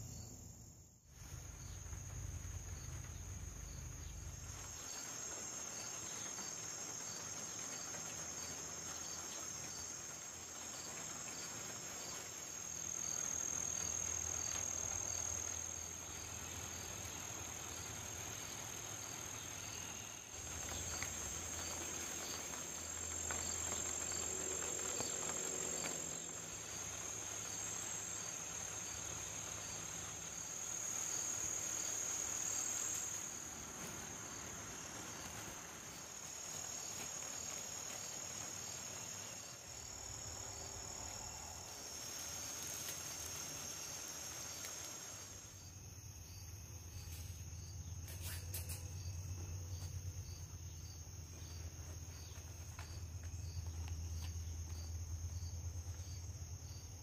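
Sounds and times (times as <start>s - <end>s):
crickets chorus: 0.0s - 57.0s
cricket chirping in regular beat: 1.2s - 57.0s.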